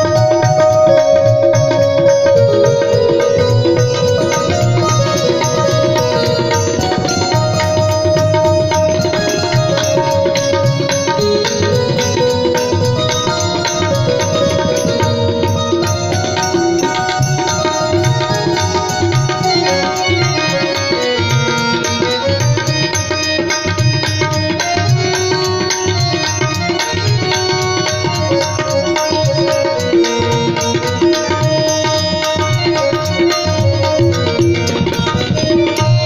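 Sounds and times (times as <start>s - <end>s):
music with drumming: 0.0s - 36.0s.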